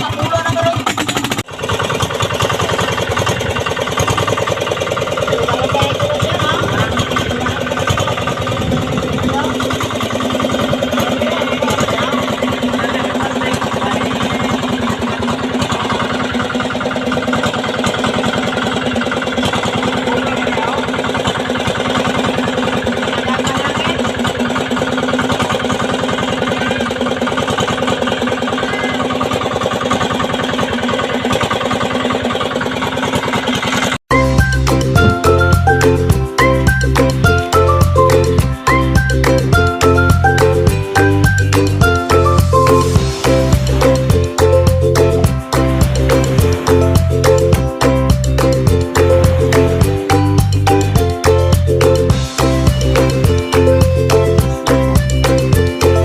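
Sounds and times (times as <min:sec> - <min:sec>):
diesel boat engine chugging: 0:00.0 - 0:56.0.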